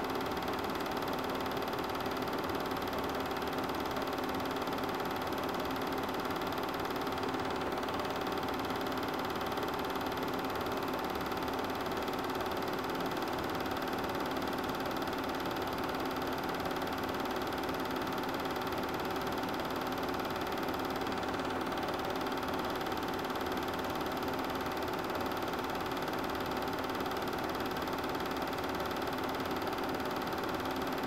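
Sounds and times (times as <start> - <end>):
film projector running: 0.0 - 31.0.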